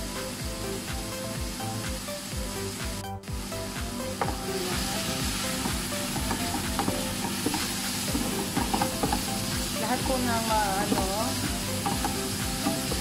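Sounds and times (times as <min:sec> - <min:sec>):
food sizzling in a frying pan: 0:00.3 - 0:13.0.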